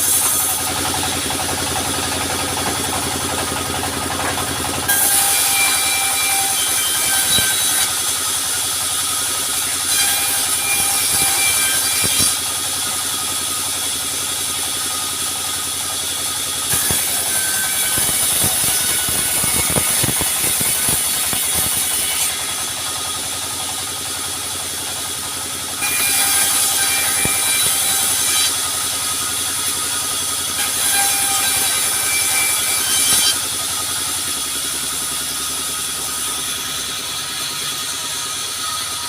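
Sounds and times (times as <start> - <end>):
saw blade cutting wood: 0.0 - 39.0
sawmill machinery rattling: 0.0 - 39.0.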